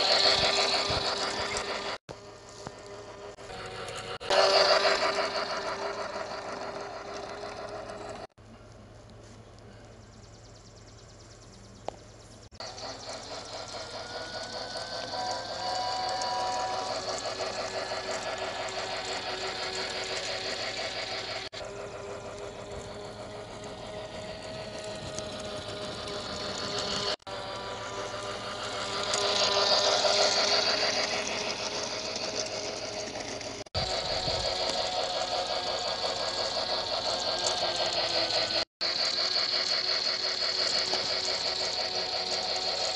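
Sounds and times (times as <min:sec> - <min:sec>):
toy train motor whirring: 0:00.0 - 0:08.4, 0:12.5 - 0:42.9
toy train rhythmic clatter: 0:00.0 - 0:09.0, 0:12.4 - 0:42.9.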